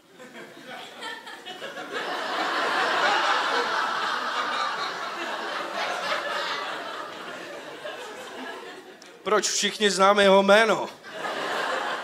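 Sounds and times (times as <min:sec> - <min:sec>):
audience laughing: 0:00.0 - 0:09.2, 0:11.0 - 0:12.0.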